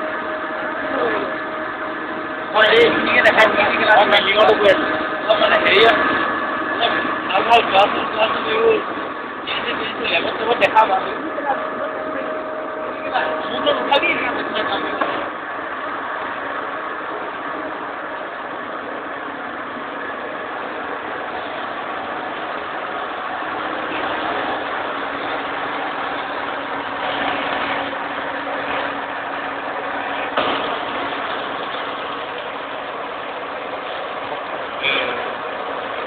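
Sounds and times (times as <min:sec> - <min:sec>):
machine tools running: 0:00.0 - 0:36.0.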